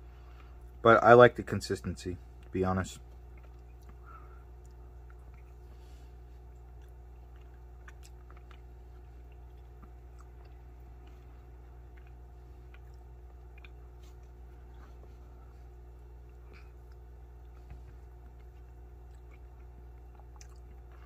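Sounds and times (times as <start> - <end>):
steady low hum: 0.0 - 21.0
faint chewing: 2.3 - 21.0.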